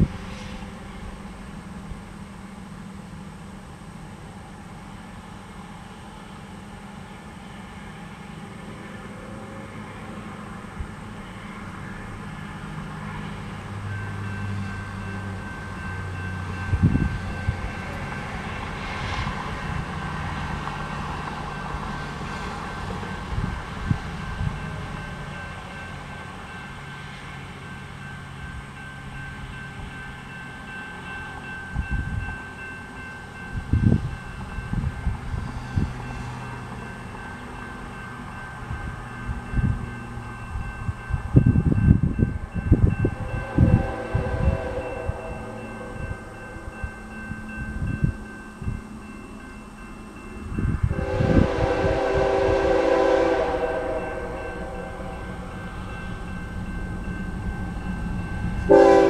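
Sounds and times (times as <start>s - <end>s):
diesel train rumble: 0.0s - 59.0s
crossing signal bell ringing: 7.2s - 18.9s, 20.8s - 59.0s.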